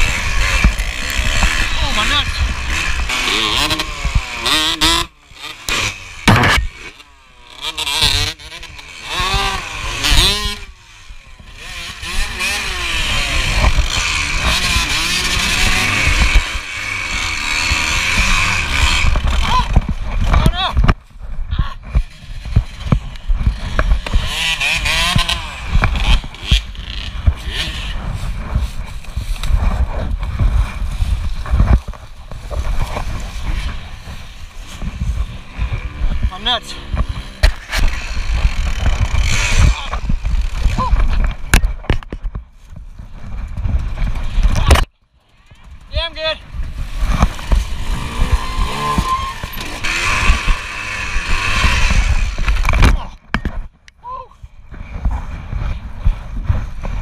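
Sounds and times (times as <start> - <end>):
rumbling handling noise: 0.0 - 53.9
thumps of dirt bike: 0.0 - 54.0, 54.7 - 57.0.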